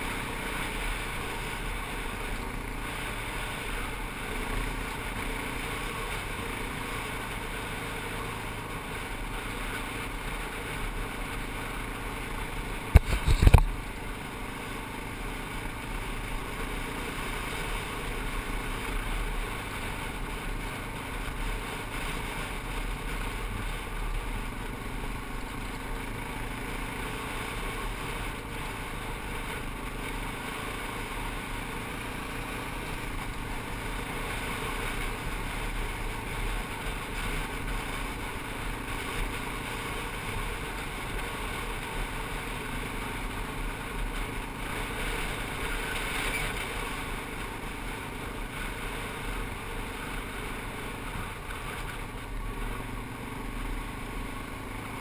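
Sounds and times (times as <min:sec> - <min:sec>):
atv engine running: 0:00.0 - 0:55.0
wind: 0:00.0 - 0:55.0.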